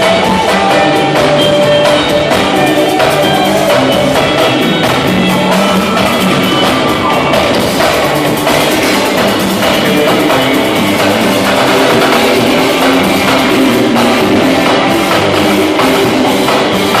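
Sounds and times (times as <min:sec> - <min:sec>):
bass line: 0:00.0 - 0:17.0
distorted electric guitars: 0:00.0 - 0:17.0
drum kit: 0:00.0 - 0:17.0.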